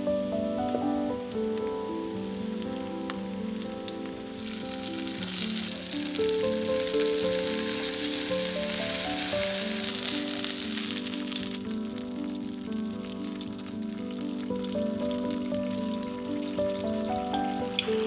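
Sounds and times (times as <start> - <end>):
puree sizzling in hot oil: 0.0 - 18.0.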